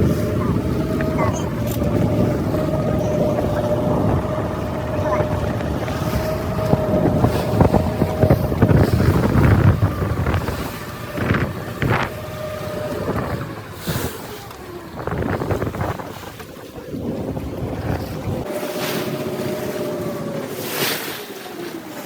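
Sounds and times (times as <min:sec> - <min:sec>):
wind noise on microphone: 0:00.0 - 0:18.5
boat engine running: 0:00.0 - 0:22.0
water washing: 0:00.0 - 0:22.0.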